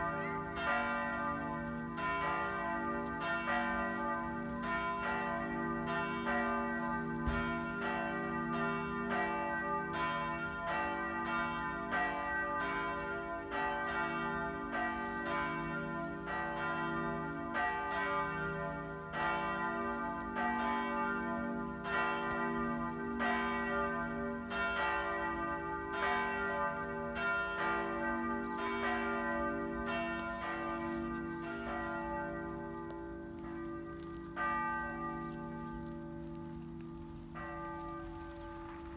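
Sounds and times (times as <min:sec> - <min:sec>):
large church bells ringing: 0:00.0 - 0:38.9.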